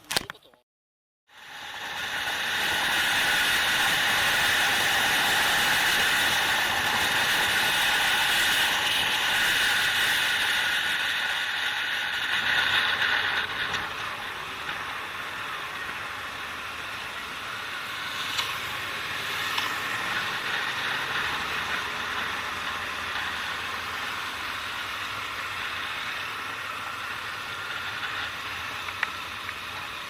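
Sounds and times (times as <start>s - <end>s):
motorcycle riding with wind noise: 1.4s - 30.0s.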